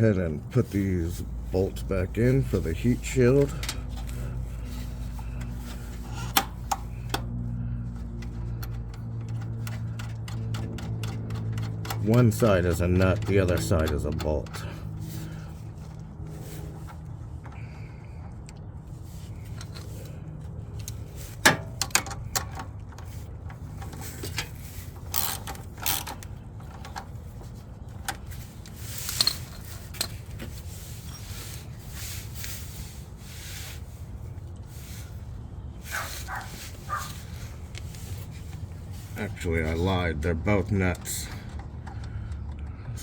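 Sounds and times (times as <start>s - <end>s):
hand tools clicking and scraping: 0.0s - 43.0s
steady low hum: 0.0s - 43.0s.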